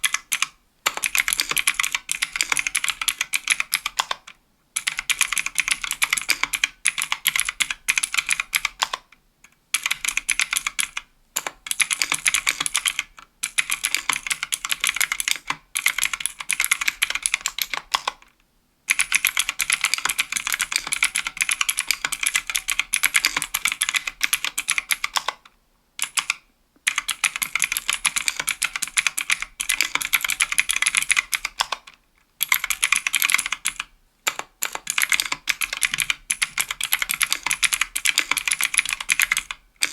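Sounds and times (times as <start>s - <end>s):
fast typing on clicky keyboard: 0.0s - 9.1s, 9.8s - 18.3s, 18.9s - 25.4s, 26.0s - 39.9s.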